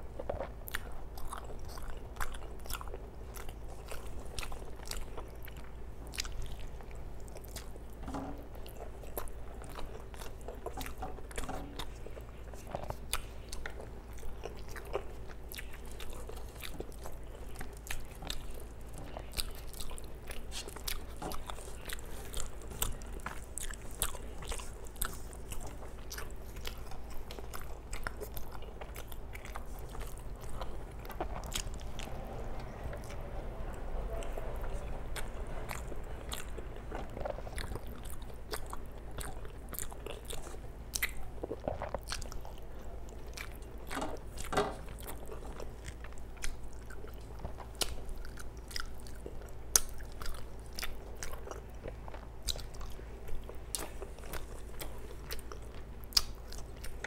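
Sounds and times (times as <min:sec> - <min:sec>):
chewing with wet mouth clicks: 0:00.0 - 0:57.0
faint steady hum: 0:00.0 - 0:57.0.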